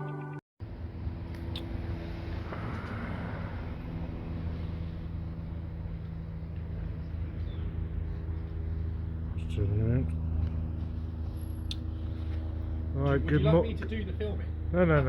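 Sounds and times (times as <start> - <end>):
traffic engine hum: 0.6 - 15.0
vehicle passing: 0.6 - 15.0.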